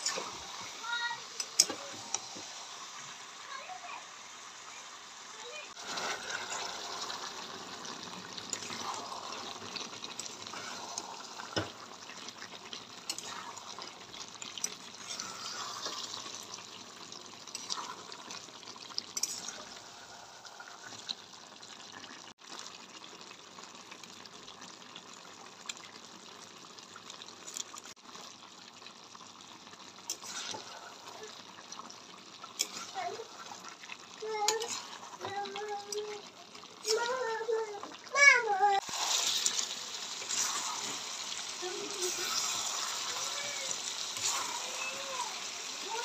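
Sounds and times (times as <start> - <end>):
chicken sizzling in gravy: 0.0 - 46.0.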